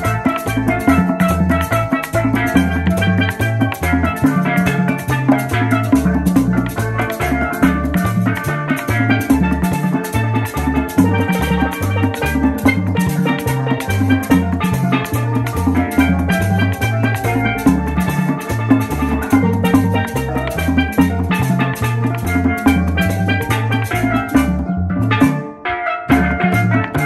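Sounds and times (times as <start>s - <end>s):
latin dance music: 0.0s - 27.0s.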